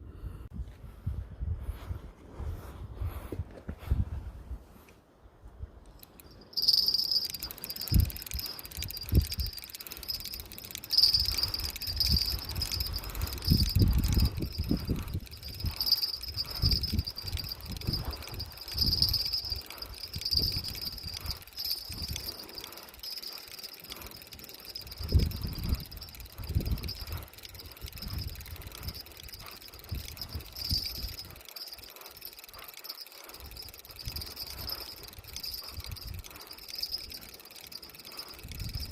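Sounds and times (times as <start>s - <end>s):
insects trilling: 6.5s - 38.9s.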